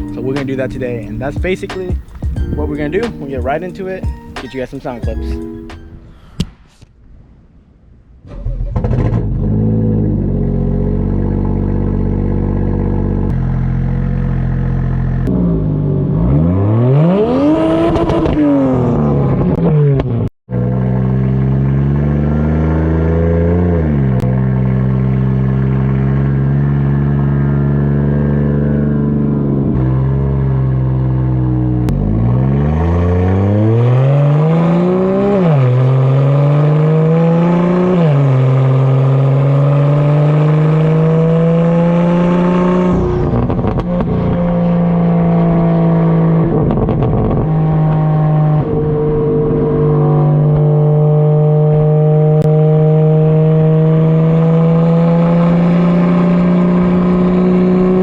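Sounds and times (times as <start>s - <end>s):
car engine revving: 0.0s - 5.0s, 8.3s - 58.0s.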